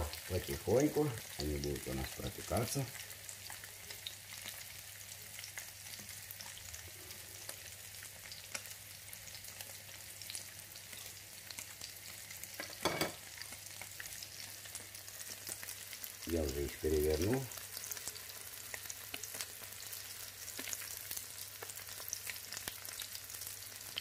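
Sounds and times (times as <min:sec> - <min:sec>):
pancakes sizzling in oil: 0:00.0 - 0:24.0.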